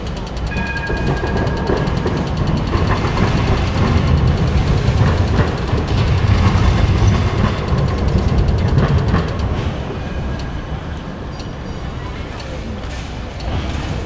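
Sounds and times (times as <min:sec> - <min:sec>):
intersection traffic noise: 0:00.0 - 0:14.0
passing tram rumble: 0:00.0 - 0:14.0.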